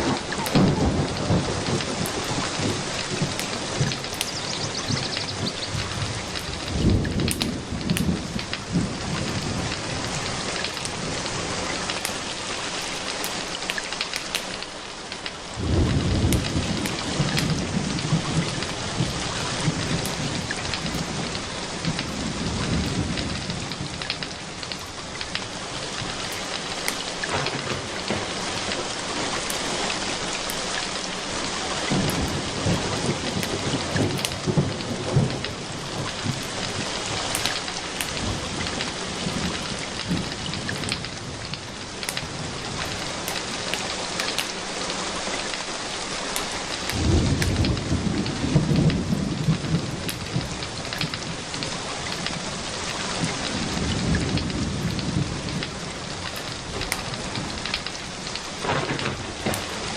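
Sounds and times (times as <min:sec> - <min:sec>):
thunder rolling: 0:00.0 - 0:12.6, 0:15.5 - 0:44.5, 0:46.7 - 0:59.9
steady rain: 0:00.0 - 0:59.9.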